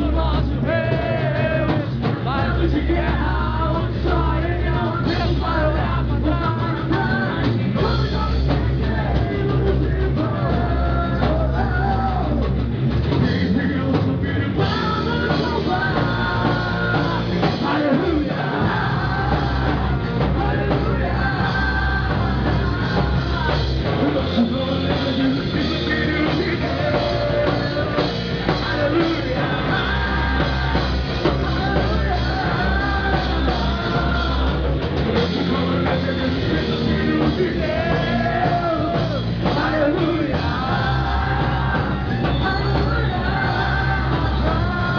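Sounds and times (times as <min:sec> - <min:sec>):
person singing: 0:00.0 - 0:44.9
rock band playing: 0:00.0 - 0:44.9.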